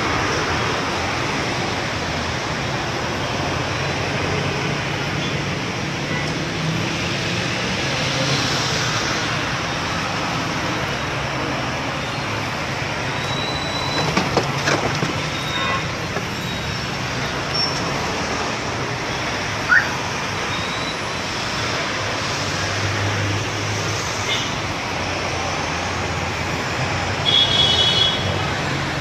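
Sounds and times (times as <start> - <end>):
city traffic noise: 0.0 - 29.0.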